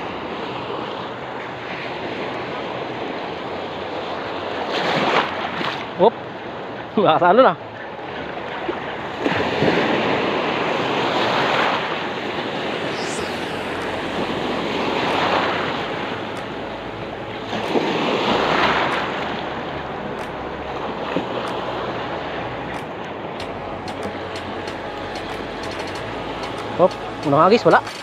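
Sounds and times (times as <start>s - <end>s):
waves breaking in surf: 0.0s - 28.0s.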